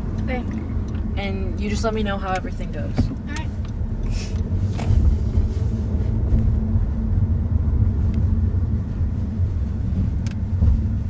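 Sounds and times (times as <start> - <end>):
engine and road rumble in car: 0.0 - 11.0.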